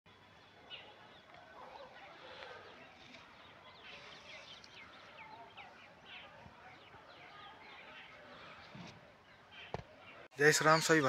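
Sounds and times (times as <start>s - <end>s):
small birds chirping: 0.2s - 11.0s.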